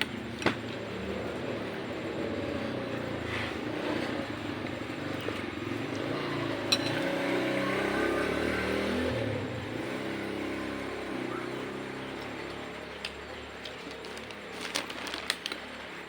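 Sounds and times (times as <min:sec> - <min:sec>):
vehicle engine running: 0:00.0 - 0:15.3.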